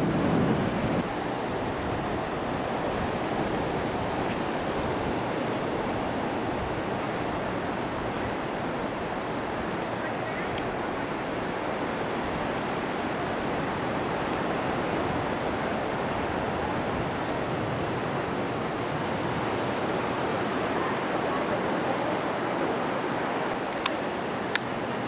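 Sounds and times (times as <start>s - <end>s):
ocean surf rushing: 0.0s - 25.0s.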